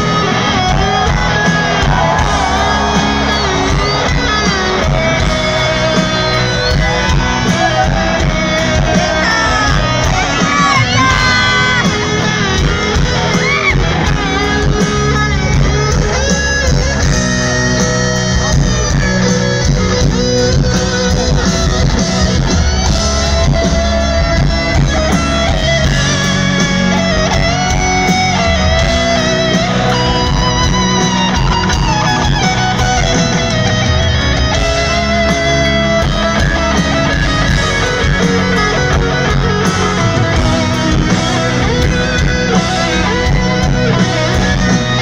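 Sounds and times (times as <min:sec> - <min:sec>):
lead electric guitar bending notes: 0:00.0 - 0:45.0
rock band with piano: 0:00.0 - 0:45.0.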